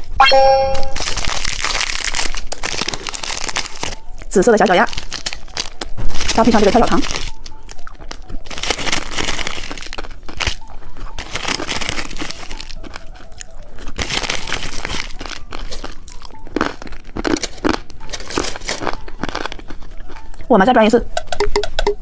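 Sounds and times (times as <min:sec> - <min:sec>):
candy crunching and crackling: 0:00.0 - 0:21.4.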